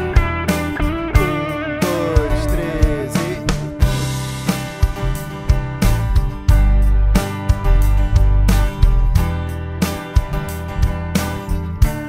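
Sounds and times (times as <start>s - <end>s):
strummed acoustic guitar: 0.0s - 12.0s
sustained deep bass notes: 0.0s - 12.0s.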